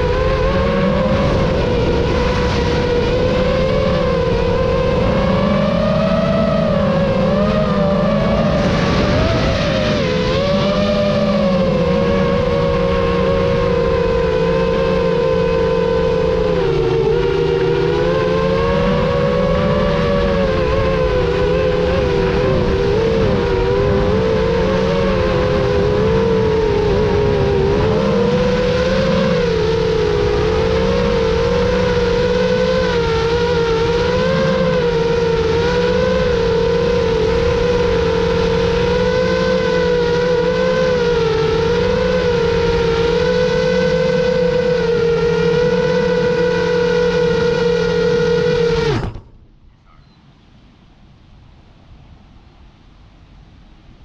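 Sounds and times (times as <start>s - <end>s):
drone motors whining: 0.0s - 50.1s
low rushing noise: 0.0s - 54.0s.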